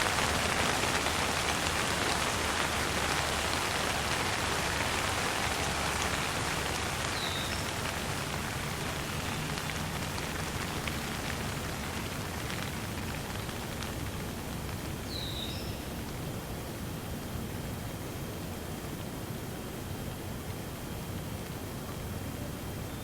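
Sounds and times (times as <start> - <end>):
light rain falling: 0.0 - 23.0.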